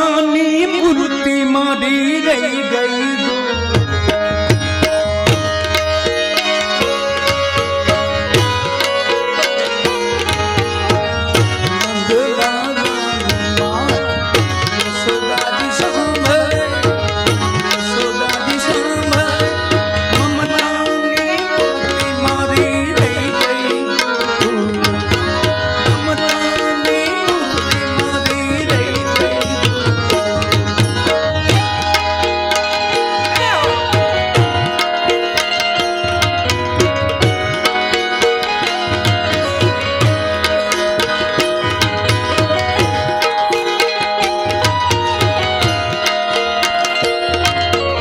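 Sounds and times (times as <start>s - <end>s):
harmonium and keyboard melody: 0.0s - 48.0s
tabla drumming: 0.0s - 48.0s.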